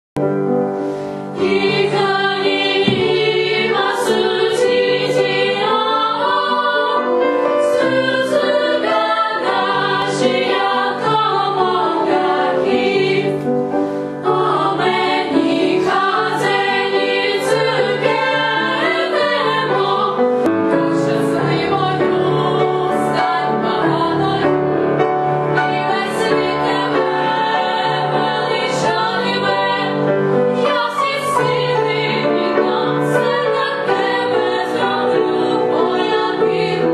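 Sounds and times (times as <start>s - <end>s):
girls' choir singing: 1.3s - 36.9s.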